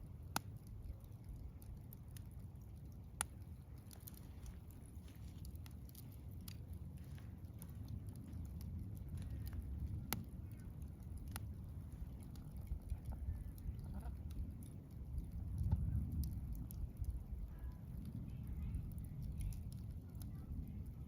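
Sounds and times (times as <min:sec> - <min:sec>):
burning wood crackling and popping: 0:00.0 - 0:21.0.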